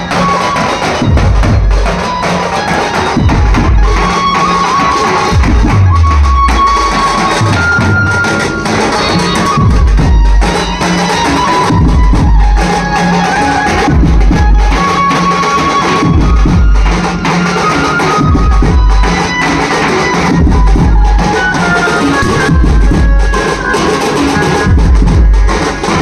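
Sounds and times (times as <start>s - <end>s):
barrel drums beaten with sticks: 0.0s - 26.0s
held melody line: 0.0s - 26.0s.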